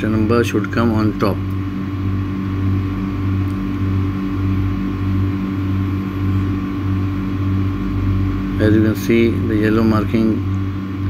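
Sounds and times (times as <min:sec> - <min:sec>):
machinery humming with pulsing throb: 0:00.0 - 0:11.0.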